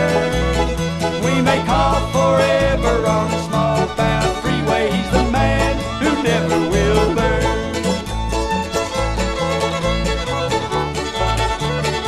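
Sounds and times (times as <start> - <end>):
banjo picking: 0.0 - 12.0
bass line: 0.0 - 12.0
fiddle: 0.0 - 12.0
guitar: 0.0 - 12.0.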